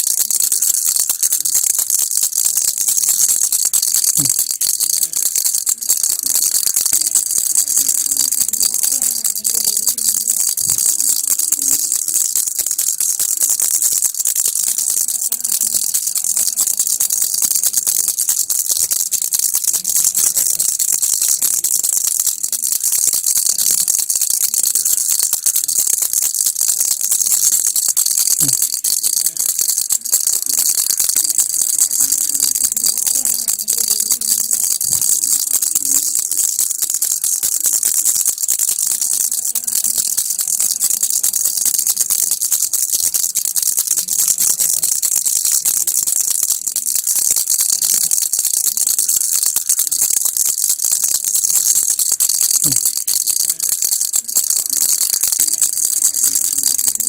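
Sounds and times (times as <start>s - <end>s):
toy rattle shaken: 0.0s - 57.0s.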